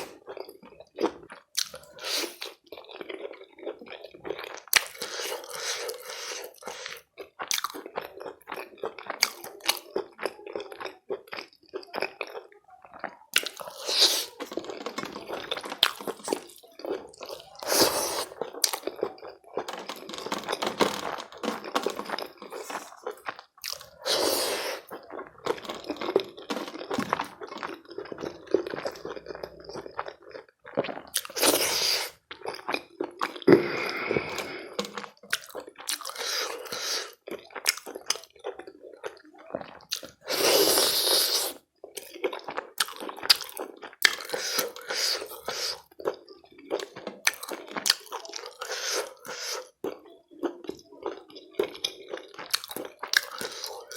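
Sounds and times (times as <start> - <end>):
close-up chewing and crunching: 0.0 - 53.9.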